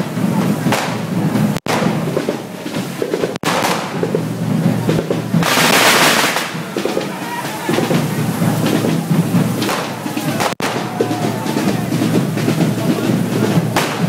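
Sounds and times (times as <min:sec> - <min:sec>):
drumming: 0:00.0 - 0:14.0
fireworks hissing and crackling: 0:00.0 - 0:14.0.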